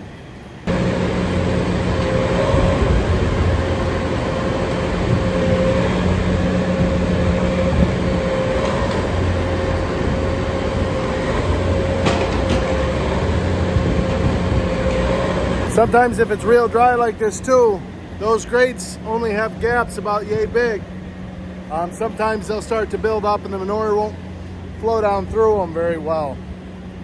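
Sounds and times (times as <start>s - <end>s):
machinery whine and hum: 0.0s - 27.0s.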